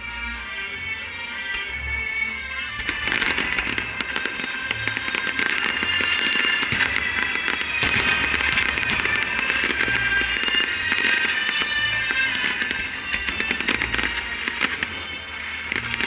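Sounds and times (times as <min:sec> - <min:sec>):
fireworks crackling: 0:00.0 - 0:16.0
fireworks bursting: 0:02.1 - 0:16.0.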